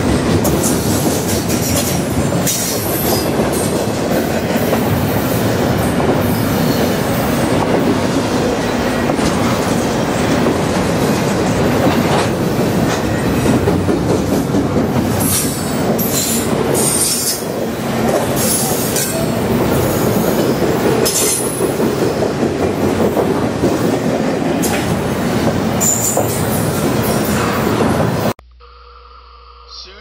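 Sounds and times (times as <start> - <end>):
freight train wheels rumbling: 0.0 - 28.4.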